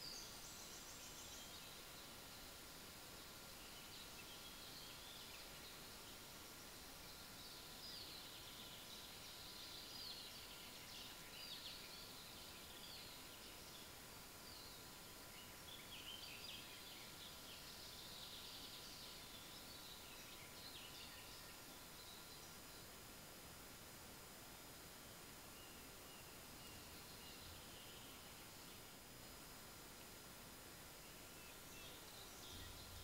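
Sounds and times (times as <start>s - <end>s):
faint birdsong chirps: 0.0s - 33.0s
steady recording hiss: 0.0s - 33.0s.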